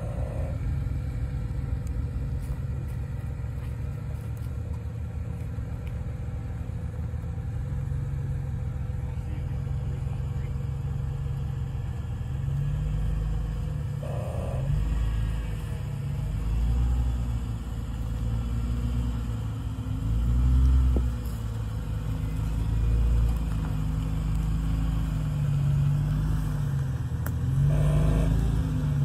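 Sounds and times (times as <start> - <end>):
vehicle engine low rumble: 0.0 - 29.0.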